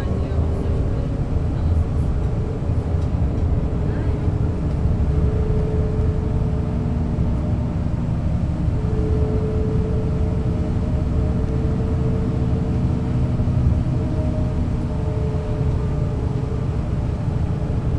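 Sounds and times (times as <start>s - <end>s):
bus diesel drone: 0.0s - 17.9s.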